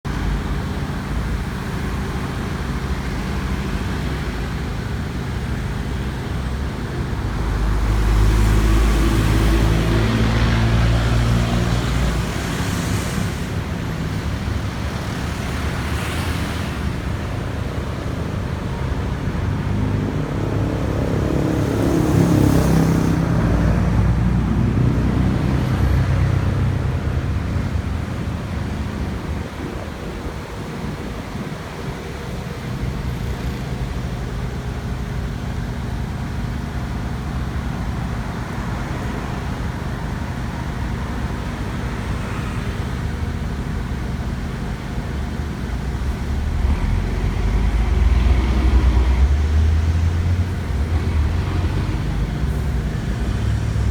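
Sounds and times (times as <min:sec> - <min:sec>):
passing vehicles: 0:00.0 - 0:53.9
vehicle engine running: 0:00.0 - 0:53.9.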